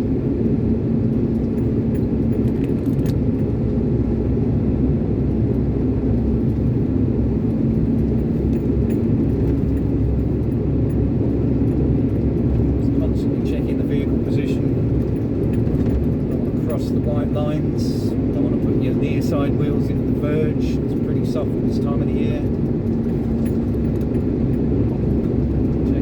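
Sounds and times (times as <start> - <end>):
low road rumble: 0.0 - 26.0
diesel truck engine running: 3.0 - 26.0.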